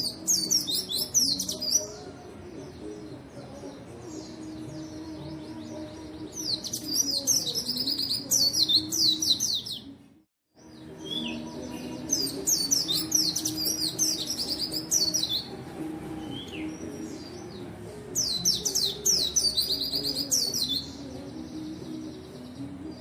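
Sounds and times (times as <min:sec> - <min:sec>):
bird singing high chirps: 0:00.0 - 0:10.0, 0:10.6 - 0:23.0.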